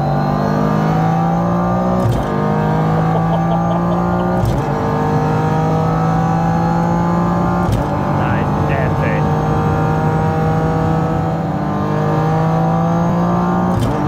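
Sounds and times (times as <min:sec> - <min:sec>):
car engine accelerating hard: 0:00.0 - 0:14.0
sharp crack on gear upshifts: 0:01.9 - 0:14.0.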